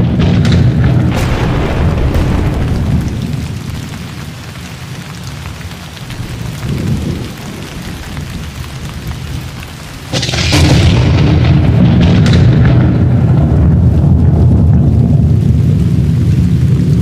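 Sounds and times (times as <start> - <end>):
loud thunderclap: 0.0 - 4.5, 6.1 - 17.0
thunder rumble: 0.0 - 17.0
rain hiss: 0.1 - 17.0.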